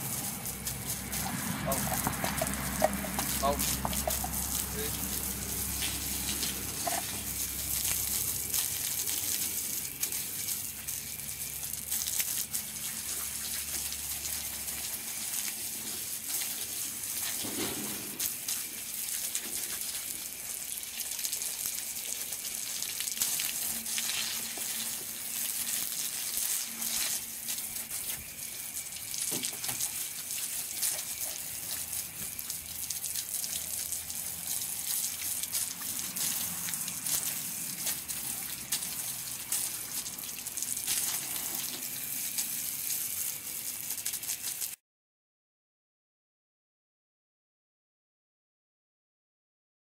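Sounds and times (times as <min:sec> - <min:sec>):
hose spraying water on concrete: 0:00.0 - 0:44.8.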